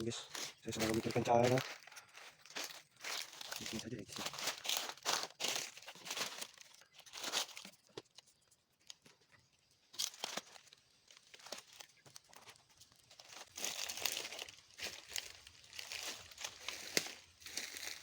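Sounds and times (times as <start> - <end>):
dry rustling and crinkling: 0.0 - 18.0.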